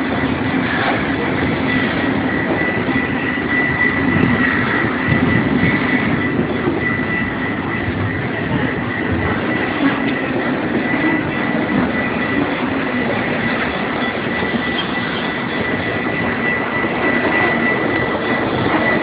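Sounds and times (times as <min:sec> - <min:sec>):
continuous high-pitched tone: 0:00.0 - 0:19.0
train rail rumble: 0:00.0 - 0:19.0.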